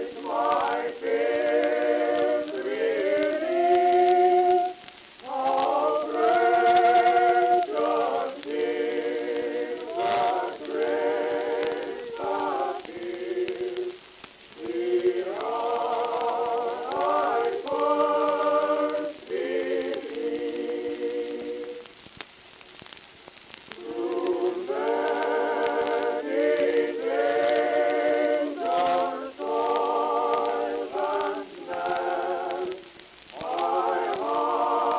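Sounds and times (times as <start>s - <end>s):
voices singing in harmony: 0.0s - 22.0s, 23.7s - 34.9s.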